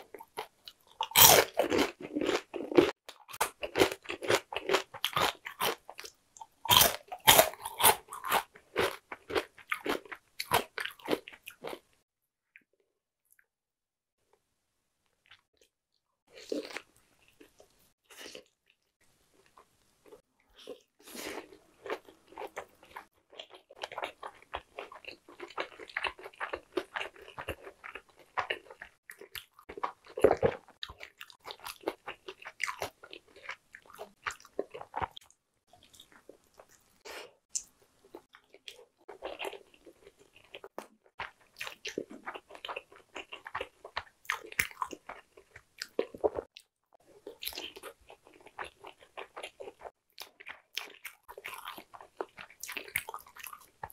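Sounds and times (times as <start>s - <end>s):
crunchy chewing of fried chicken: 0.0s - 12.0s, 16.3s - 53.9s.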